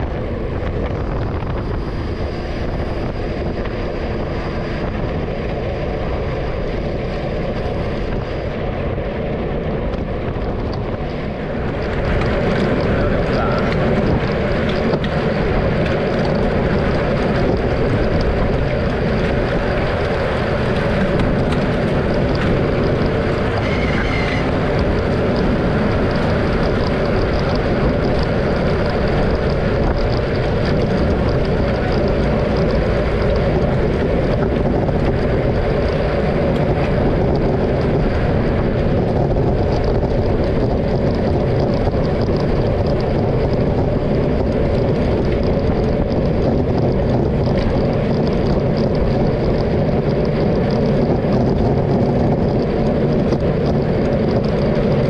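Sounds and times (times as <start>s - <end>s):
road noise: 0.0s - 55.0s
wind on microphone: 0.0s - 55.0s.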